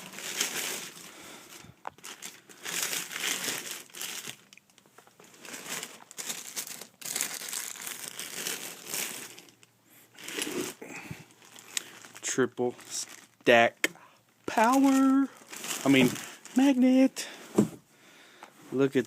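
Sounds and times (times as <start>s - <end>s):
packaging crinkling and rustling: 0.0s - 13.5s, 14.5s - 17.1s.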